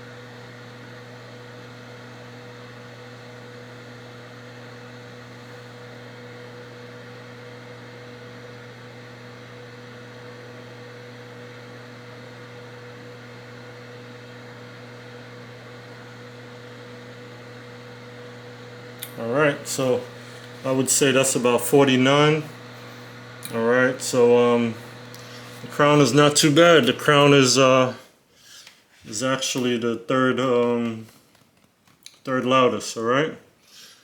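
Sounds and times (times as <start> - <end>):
amplifier cooling fan running: 0.0 - 33.9.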